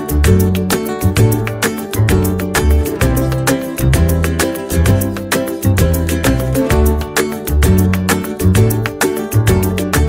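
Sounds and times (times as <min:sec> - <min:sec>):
background music with beat and bass: 0:00.0 - 0:10.0.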